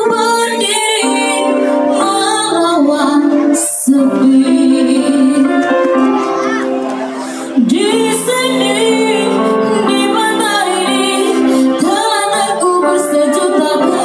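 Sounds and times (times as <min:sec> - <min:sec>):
woman singing: 0:00.0 - 0:05.9, 0:07.6 - 0:14.0.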